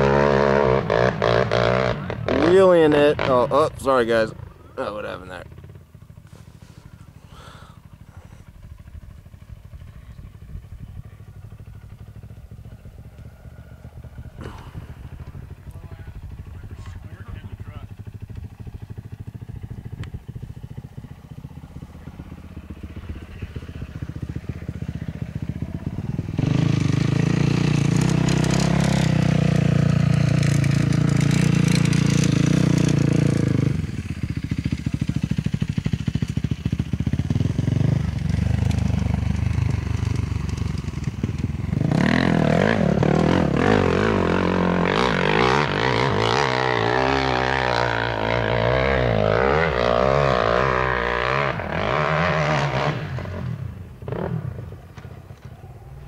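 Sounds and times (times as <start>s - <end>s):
dirt bike engine revving: 0.0s - 9.8s, 11.1s - 56.0s.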